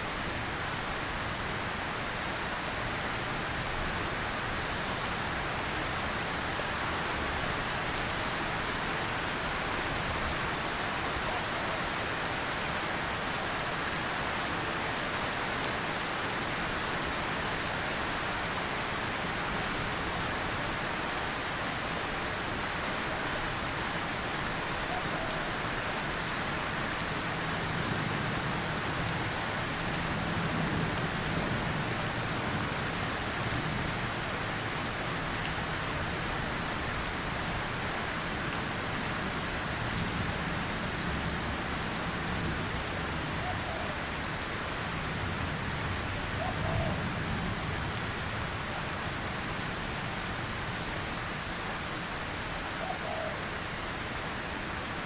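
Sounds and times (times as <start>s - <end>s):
rain on foliage: 0.0s - 55.0s.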